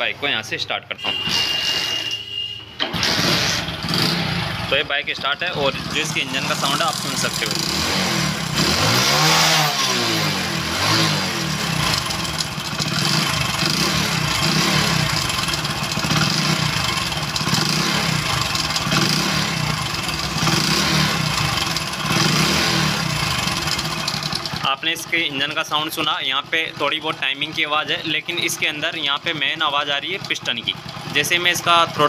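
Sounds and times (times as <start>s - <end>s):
motorcycle engine clattering: 2.8s - 4.7s, 5.6s - 32.0s.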